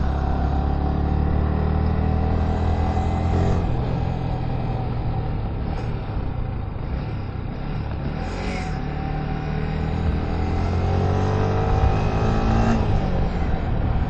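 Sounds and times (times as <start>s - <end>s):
motorcycle engine: 0.0s - 14.0s.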